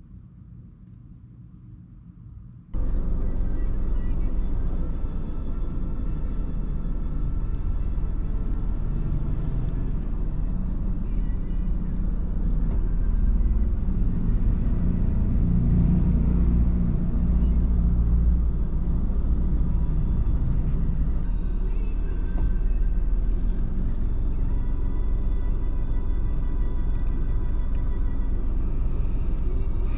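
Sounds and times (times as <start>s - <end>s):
low vehicle rumble: 2.7s - 29.9s.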